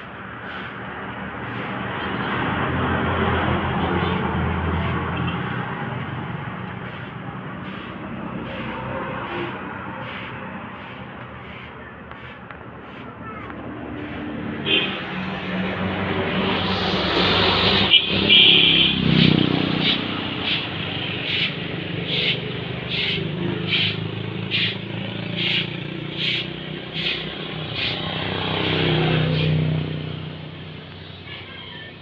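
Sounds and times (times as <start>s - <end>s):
vehicle engine running: 0.0s - 29.5s.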